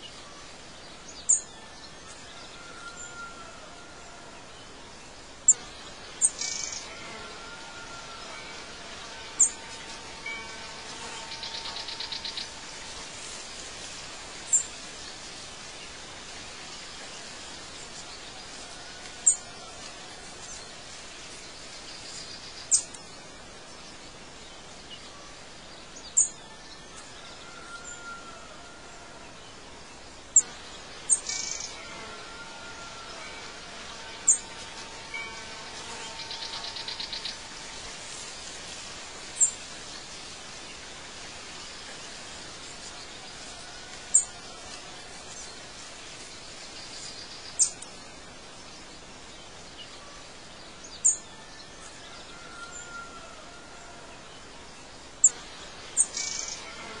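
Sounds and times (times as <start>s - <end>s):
background hiss: 0.0s - 57.0s.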